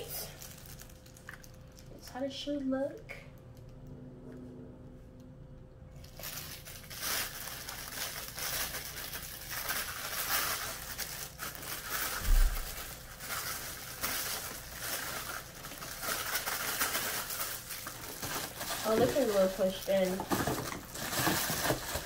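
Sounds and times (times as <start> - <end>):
plastic packaging crinkling: 0.0 - 2.0, 5.9 - 22.0.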